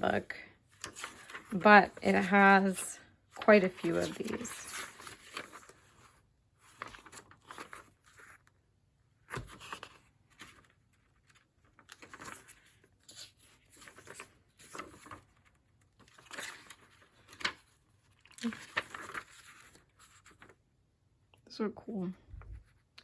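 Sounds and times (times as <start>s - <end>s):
book pages rustling: 0.7s - 8.6s, 9.2s - 20.6s.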